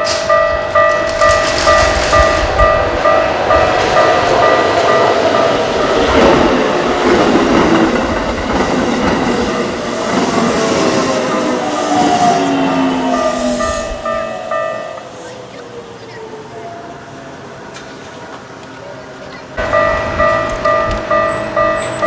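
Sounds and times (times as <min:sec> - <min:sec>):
electronic crossing warning bell: 0:00.0 - 0:15.7, 0:19.6 - 0:22.0
train wheels clattering: 0:00.0 - 0:15.8, 0:17.7 - 0:22.0.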